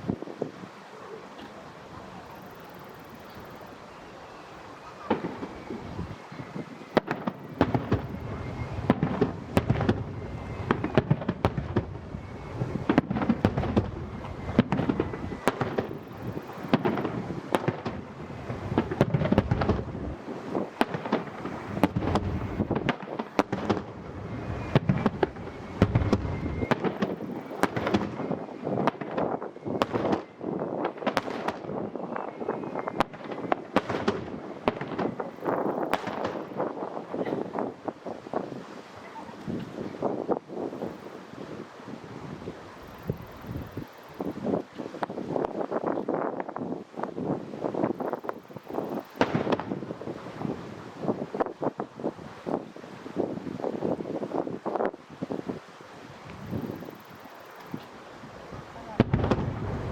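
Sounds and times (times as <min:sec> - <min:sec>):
fireworks bursting and crackling: 0:00.0 - 0:59.9
fireworks hissing: 0:00.0 - 0:59.9.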